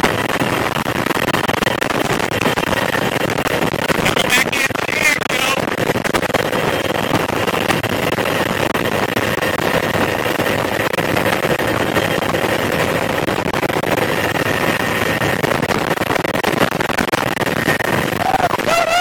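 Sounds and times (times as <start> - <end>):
helicopter engine and rotor noise: 0.0 - 19.0.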